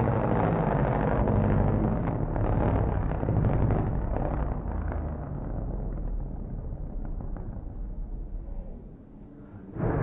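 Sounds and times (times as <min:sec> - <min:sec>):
vehicle rumble with road noise: 0:00.0 - 0:08.5.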